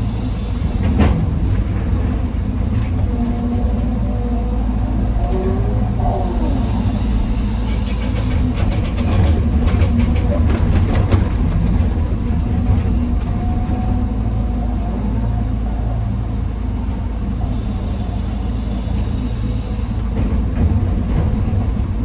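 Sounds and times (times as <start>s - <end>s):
diesel excavator engine running: 0.0s - 22.0s.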